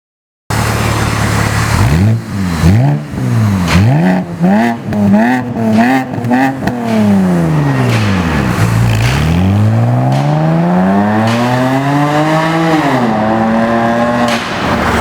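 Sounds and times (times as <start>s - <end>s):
car engine idling and revving: 0.5s - 15.0s.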